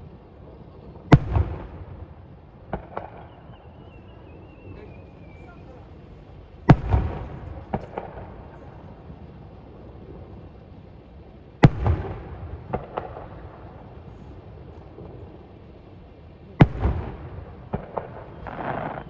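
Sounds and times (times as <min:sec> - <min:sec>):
low rumble: 0:00.0 - 0:18.6
crackling pops: 0:00.0 - 0:19.0
fireworks bangs: 0:00.0 - 0:19.0.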